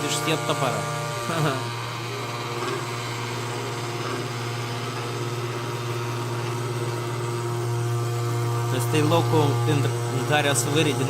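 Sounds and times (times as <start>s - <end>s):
low machine hum with tones: 0.0s - 11.0s.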